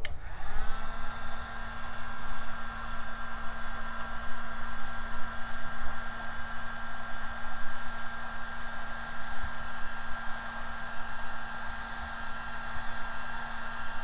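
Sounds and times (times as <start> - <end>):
heat gun running: 0.0 - 14.0.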